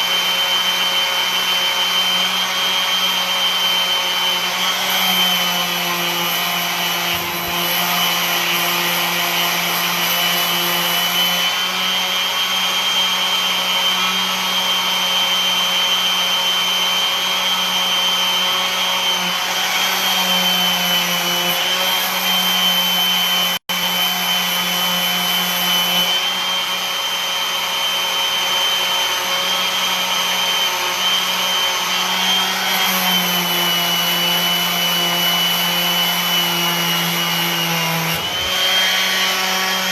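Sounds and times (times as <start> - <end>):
electric sander on wood: 0.0 - 39.9.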